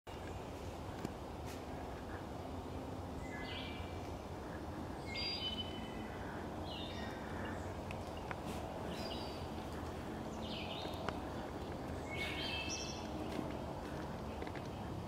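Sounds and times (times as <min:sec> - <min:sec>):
low background rumble: 0:00.3 - 0:15.0.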